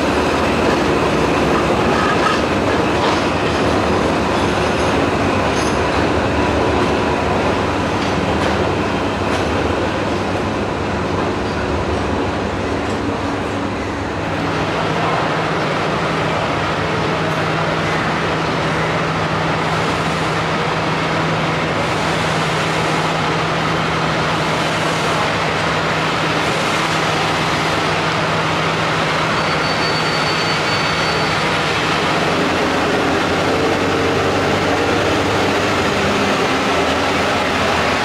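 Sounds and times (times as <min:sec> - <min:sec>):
steam locomotive running: 0:00.0 - 0:38.0.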